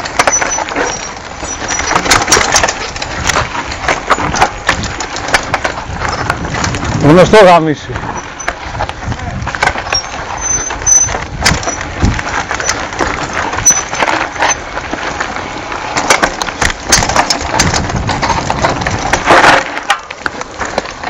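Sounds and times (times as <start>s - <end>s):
bike clicks and rattles: 0.0s - 21.0s
tyres rumbling over dirt and stones: 0.0s - 21.0s.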